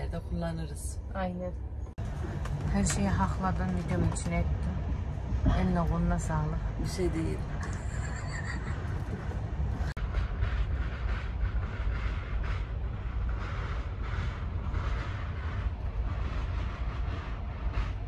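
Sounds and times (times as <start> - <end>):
passenger train rumbling: 0.0 - 18.0.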